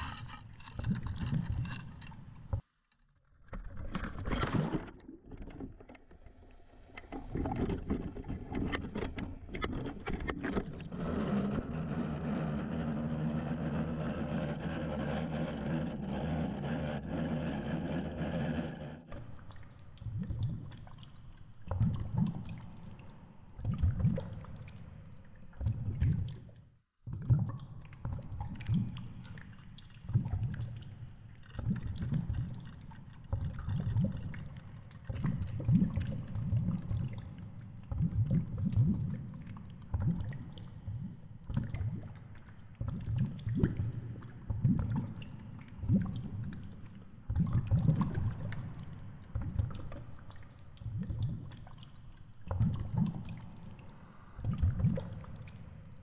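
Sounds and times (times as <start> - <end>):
underwater mechanical hum: 0.0 - 4.9, 5.6 - 56.0.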